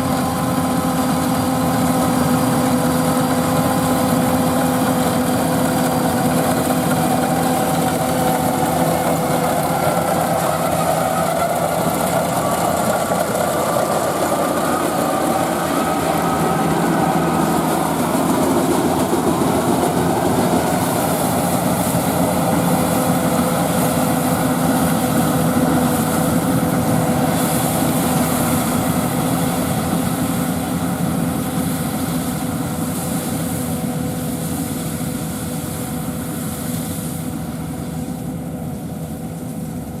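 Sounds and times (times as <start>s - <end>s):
combine harvester engine running: 0.0s - 40.0s.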